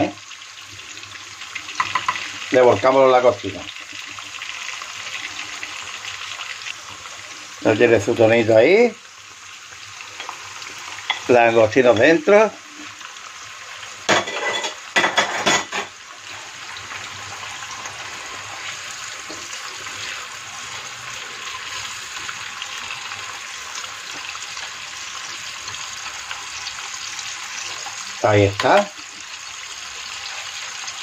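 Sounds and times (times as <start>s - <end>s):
prawns sizzling in oil: 0.0s - 31.0s.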